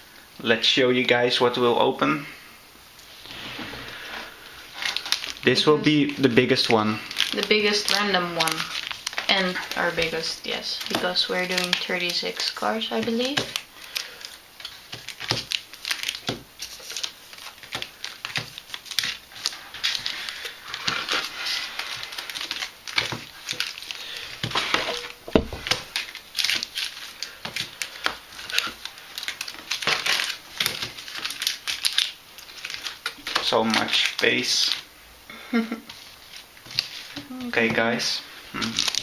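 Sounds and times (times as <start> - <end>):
foil packs crinkling: 3.2 - 34.9, 35.5 - 39.0.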